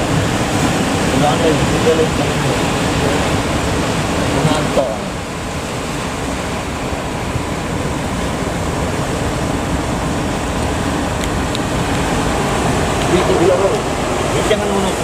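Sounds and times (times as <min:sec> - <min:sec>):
heavy surf breaking: 0:00.0 - 0:15.0.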